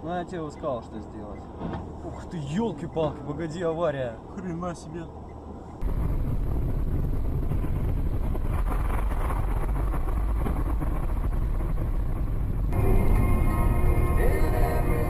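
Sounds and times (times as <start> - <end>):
car driving heard from cabin: 0.0 - 15.0.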